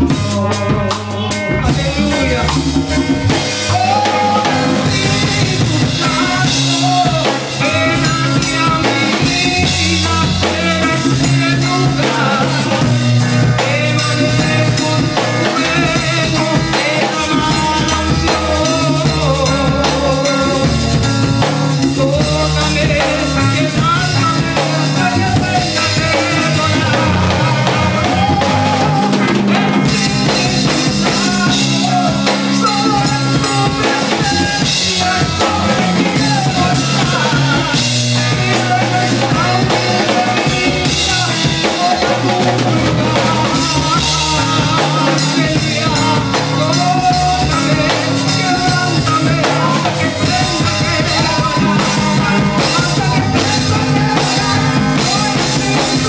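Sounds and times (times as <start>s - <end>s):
drum kit with cymbals: 0.0s - 56.0s
electric bass: 0.0s - 56.0s.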